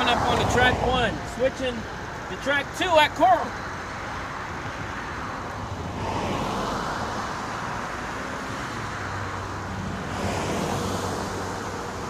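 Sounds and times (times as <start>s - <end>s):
vehicle passing: 0.0s - 2.4s, 3.4s - 12.0s.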